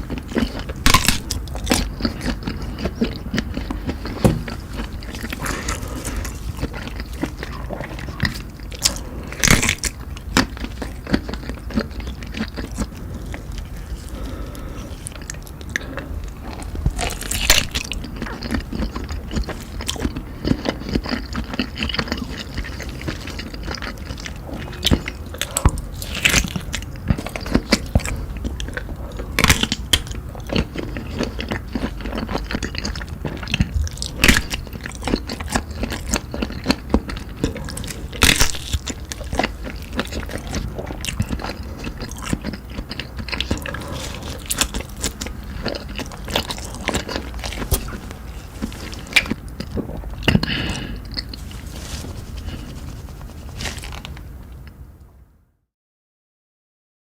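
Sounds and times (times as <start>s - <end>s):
person chewing food: 0.0s - 54.8s.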